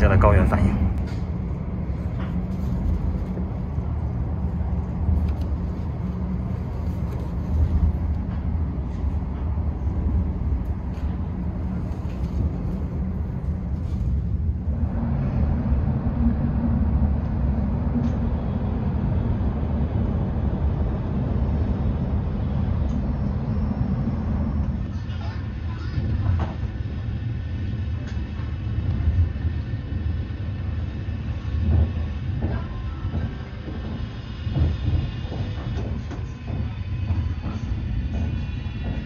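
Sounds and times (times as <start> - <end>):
train rumble inside carriage: 0.0 - 39.0.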